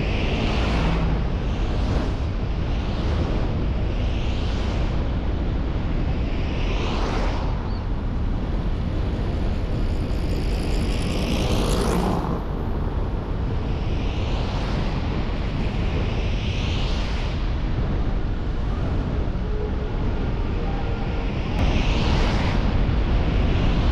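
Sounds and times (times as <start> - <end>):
car engine and tyres rumbling: 0.0 - 23.9.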